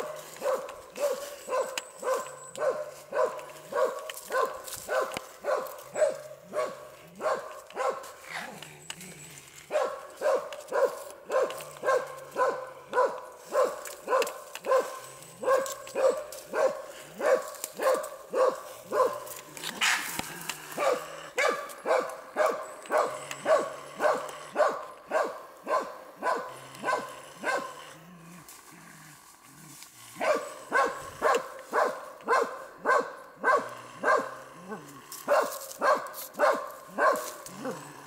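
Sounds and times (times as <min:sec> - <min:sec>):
dog barking fast: 0:00.0 - 0:08.1, 0:09.7 - 0:20.0, 0:20.8 - 0:27.8, 0:30.2 - 0:34.4, 0:35.3 - 0:37.3.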